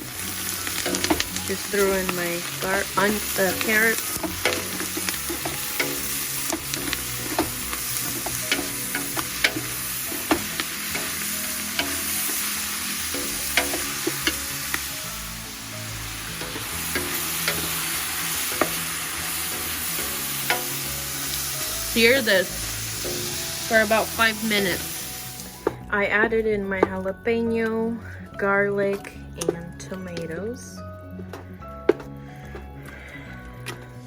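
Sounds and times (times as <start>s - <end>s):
vegetables sizzling in oil: 0.0s - 32.6s.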